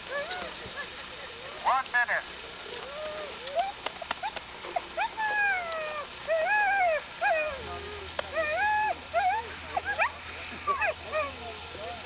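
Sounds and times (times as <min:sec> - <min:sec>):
dogs howling and whining: 0:00.0 - 0:01.7, 0:02.7 - 0:11.5.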